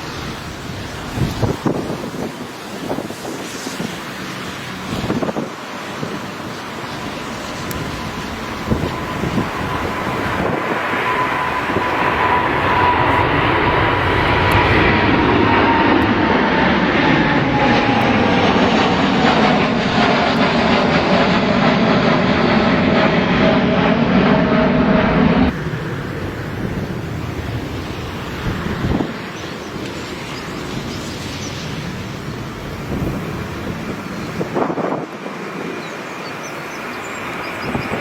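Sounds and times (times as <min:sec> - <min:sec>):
wind noise on microphone: 0:00.0 - 0:21.5, 0:22.8 - 0:35.9, 0:37.5 - 0:38.0
airliner engines passing: 0:00.0 - 0:38.0.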